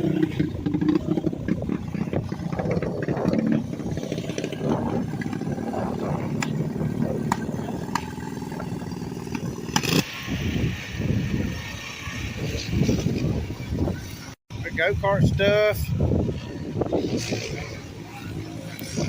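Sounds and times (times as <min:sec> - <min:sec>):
small racing engines revving: 0:00.0 - 0:14.3, 0:16.0 - 0:19.0.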